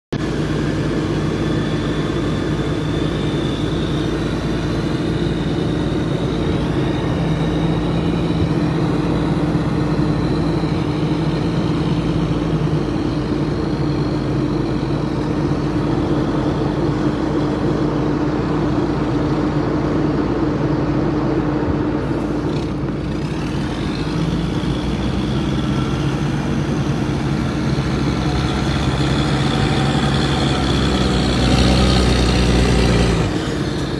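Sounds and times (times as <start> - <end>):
truck engine running: 0.1 - 33.9
high wavering whine: 0.2 - 33.9.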